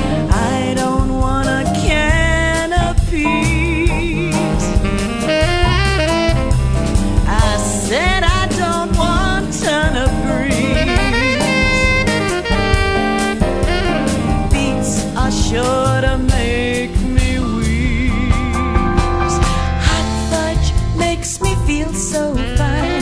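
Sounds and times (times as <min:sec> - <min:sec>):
bass: 0:00.0 - 0:23.0
drum kit: 0:00.0 - 0:23.0
jazz melody with vibrato: 0:00.0 - 0:23.0.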